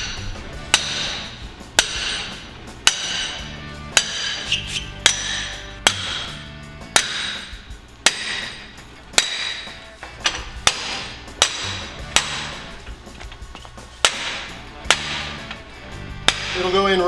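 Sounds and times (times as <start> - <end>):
sledgehammer striking metal: 0.0 - 12.8, 14.0 - 17.0.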